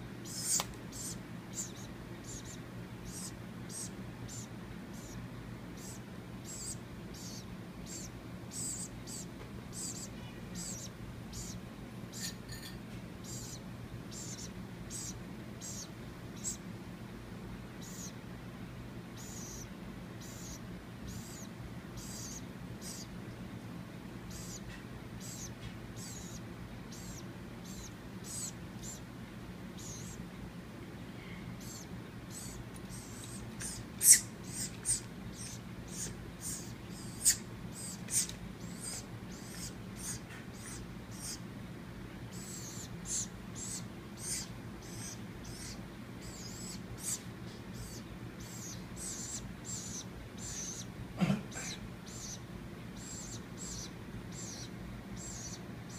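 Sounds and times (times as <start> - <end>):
faint low hum: 0.0 - 55.9
baby woodpecker chirping: 0.2 - 16.7, 17.7 - 18.2, 19.1 - 23.2, 24.2 - 29.1, 29.7 - 30.2, 31.6 - 41.5, 42.2 - 55.9.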